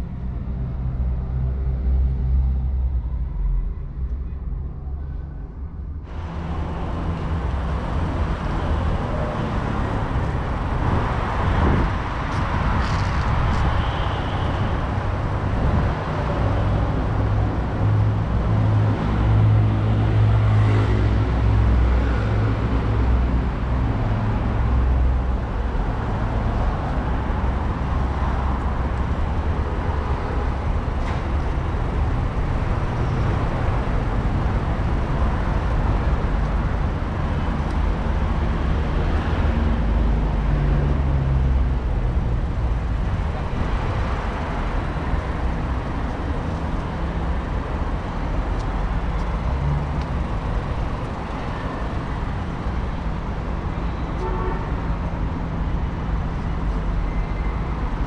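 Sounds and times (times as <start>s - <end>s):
low traffic rumble: 0.0s - 58.0s
passing vehicles: 0.0s - 58.0s.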